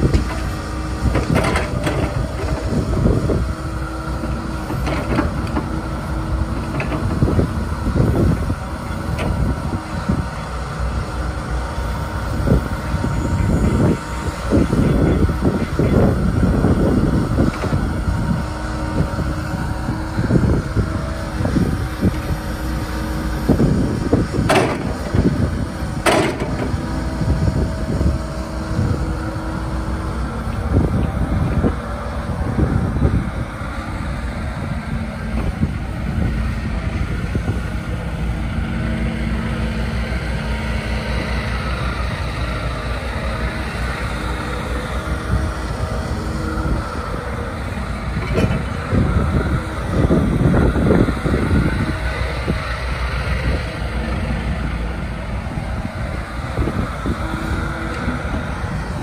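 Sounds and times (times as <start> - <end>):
excavator diesel engine under load: 0.0 - 59.0.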